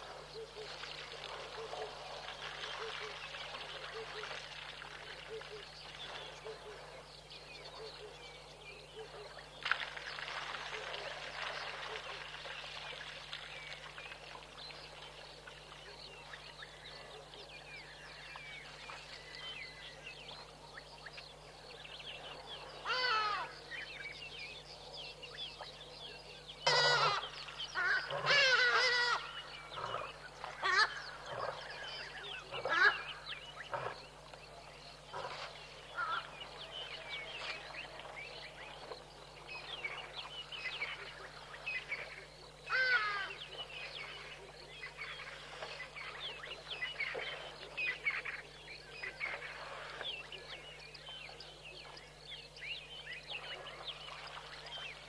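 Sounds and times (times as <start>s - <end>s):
wild birds calling: 0.0s - 55.0s.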